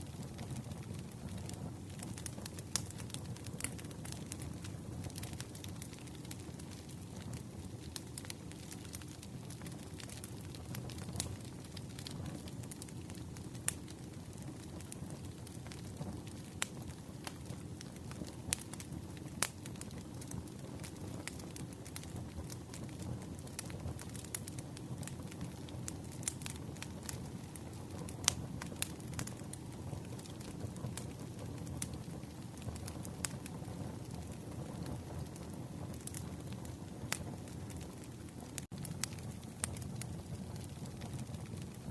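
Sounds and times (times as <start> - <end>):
wood fire crackling: 0.0 - 41.9
sharp fire pops: 0.1 - 41.9.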